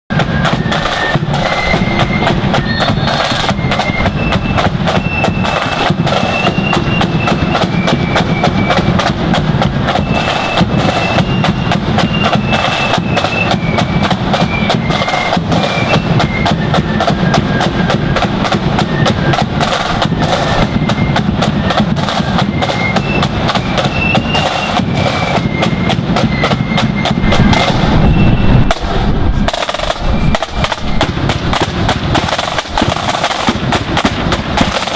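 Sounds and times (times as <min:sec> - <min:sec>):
bass drum beat: 0:00.1 - 0:34.9
flutes playing melody: 0:00.1 - 0:34.9
rapid snare drumming: 0:00.1 - 0:34.9.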